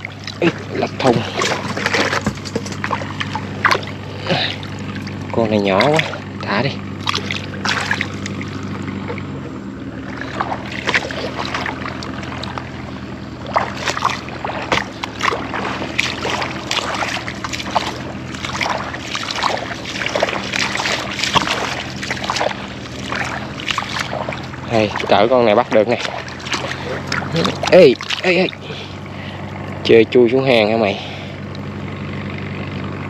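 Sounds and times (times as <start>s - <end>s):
low engine hum: 0.0s - 33.0s
wading splashes in shallow water: 0.0s - 33.0s.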